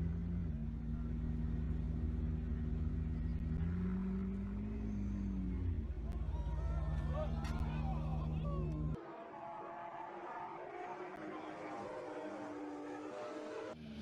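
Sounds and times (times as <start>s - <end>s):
car engine revving: 0.0s - 9.0s, 10.3s - 14.0s.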